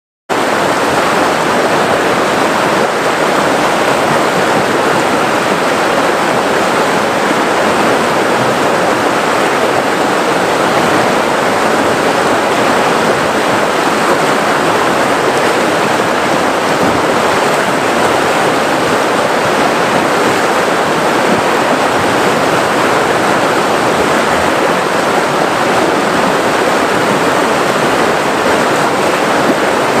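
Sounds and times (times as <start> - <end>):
river rapids rushing: 0.3 - 30.0.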